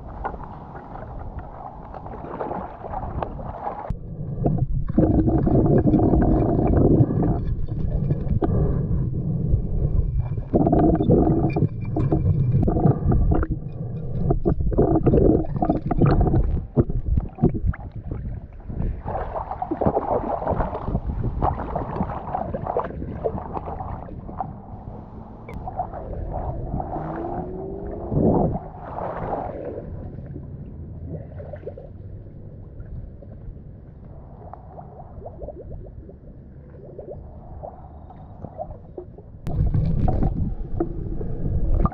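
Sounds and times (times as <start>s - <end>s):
muffled underwater water noise: 0.0s - 41.9s.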